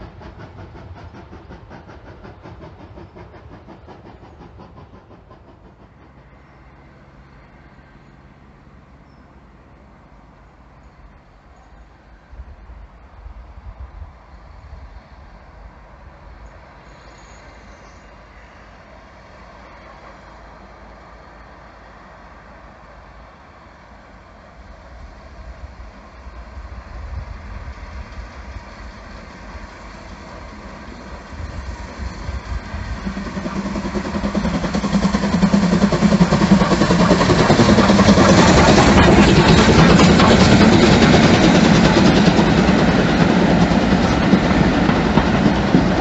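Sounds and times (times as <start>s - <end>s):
steam locomotive exhaust and running: 0.0s - 46.0s.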